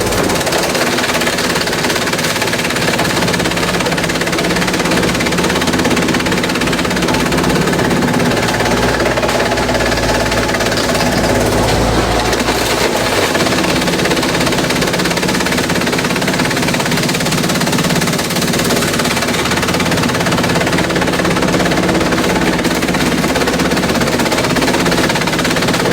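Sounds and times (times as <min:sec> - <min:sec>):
shredder clattering: 0:00.0 - 0:25.9.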